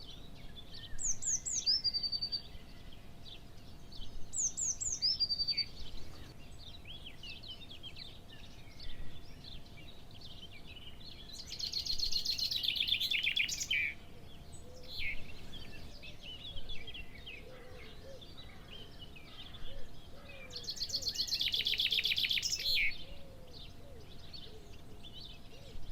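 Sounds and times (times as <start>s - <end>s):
bird chirps and calls: 0.0s - 25.9s.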